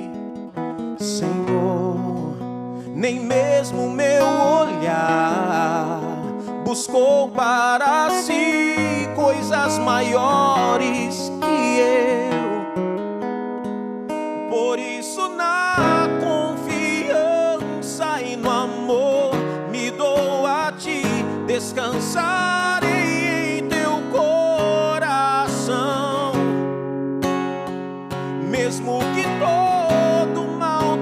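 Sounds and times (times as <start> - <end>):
acoustic guitar strumming: 0.0 - 31.0
person singing with vibrato: 1.0 - 12.9, 14.4 - 26.7, 28.3 - 31.0.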